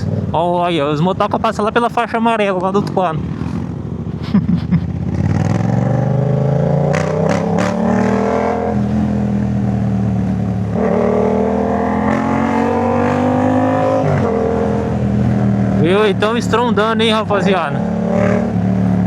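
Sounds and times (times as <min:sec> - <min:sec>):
motorcycle engine accelerating: 0:02.6 - 0:19.0.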